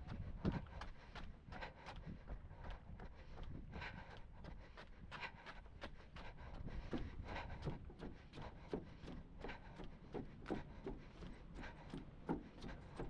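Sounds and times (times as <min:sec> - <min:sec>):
jogging footsteps on wooden boards: 0:00.0 - 0:13.0.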